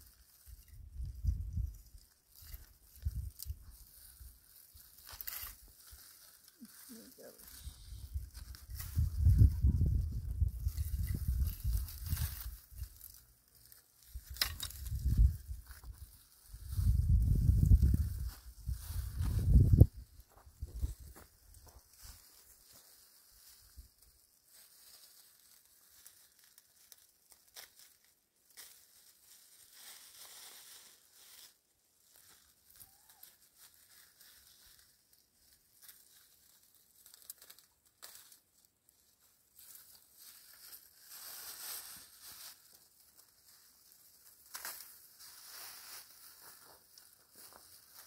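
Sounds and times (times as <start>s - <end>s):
rustling and crinkling: 0.0s - 48.0s.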